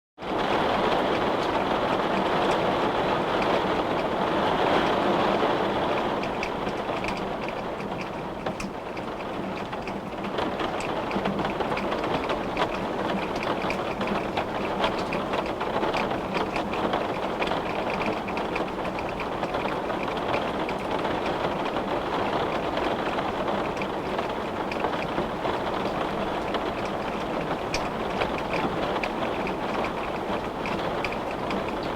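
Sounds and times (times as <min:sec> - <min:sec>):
heavy rain on glass: 0:00.2 - 0:31.9.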